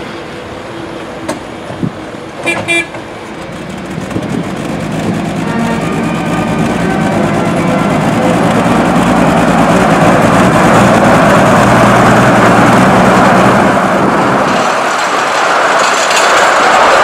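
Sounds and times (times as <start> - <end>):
locomotive engine running: 0.0 - 17.0
wheels rolling on rails: 2.9 - 17.0.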